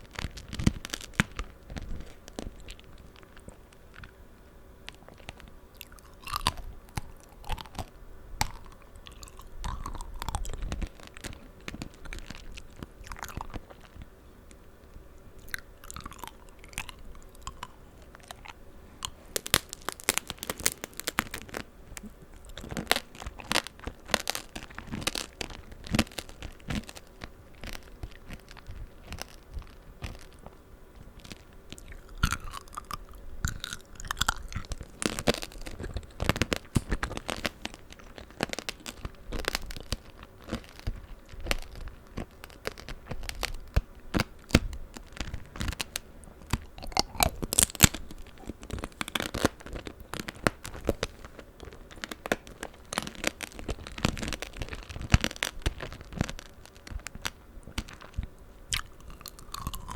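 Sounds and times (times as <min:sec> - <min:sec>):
candy shell crunching: 0:00.0 - 0:04.2, 0:04.8 - 0:14.6, 0:15.4 - 0:59.9
wet chewing: 0:04.9 - 0:14.1, 0:15.4 - 0:59.9.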